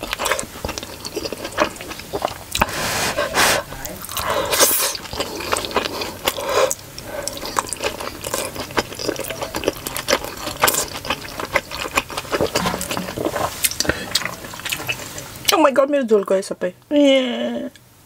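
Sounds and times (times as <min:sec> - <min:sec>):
wet chewing and mouth smacking: 0:00.0 - 0:02.8, 0:03.8 - 0:15.6.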